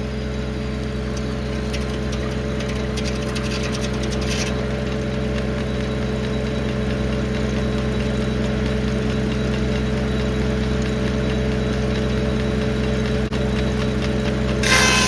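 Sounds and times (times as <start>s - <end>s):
tractor engine running: 0.0s - 15.0s
rapid clicking: 1.1s - 14.8s.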